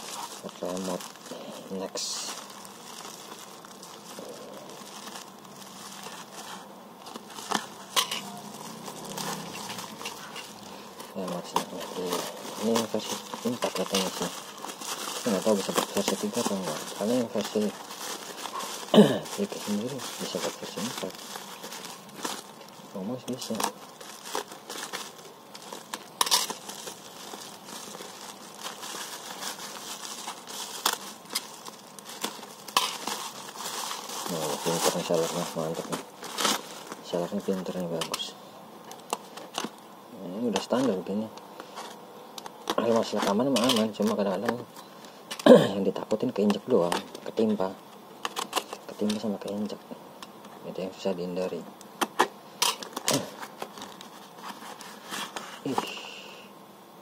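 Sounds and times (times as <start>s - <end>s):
bubble wrap rustling and crinkling: 0.0s - 56.2s.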